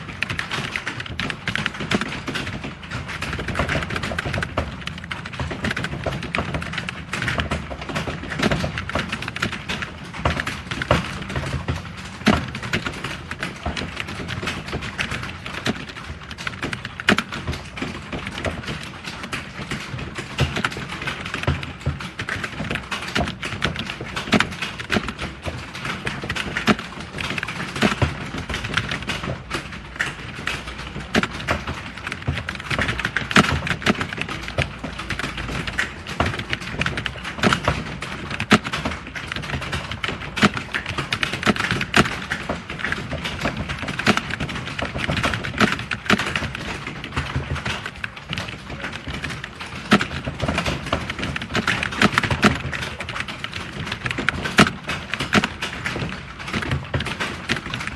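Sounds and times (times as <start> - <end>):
typing on keyboard: 0.0 - 57.9.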